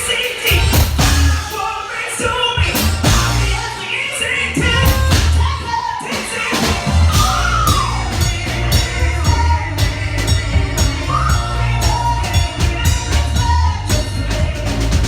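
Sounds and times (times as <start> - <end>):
drums beat: 0.0 - 1.8, 2.6 - 3.8, 4.6 - 15.0
live band playing: 0.0 - 15.0
woman singing: 0.0 - 15.0
bass line: 0.5 - 1.5, 2.6 - 5.6, 6.6 - 15.0.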